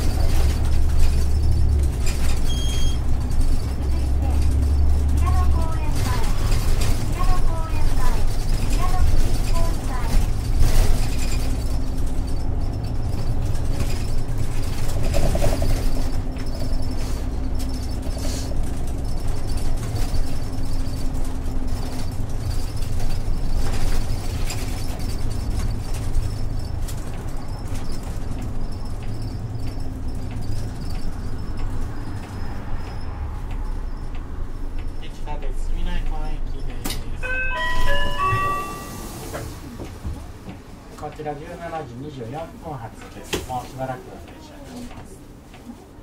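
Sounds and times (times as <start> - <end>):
body ticks and rattles: 0.0 - 37.1
bus diesel engine drone: 0.0 - 46.0.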